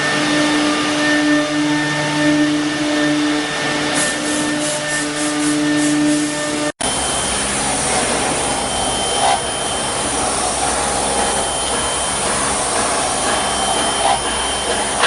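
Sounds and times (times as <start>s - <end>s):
cnc machine cutting: 0.0s - 15.0s
high spindle whine: 0.0s - 15.0s.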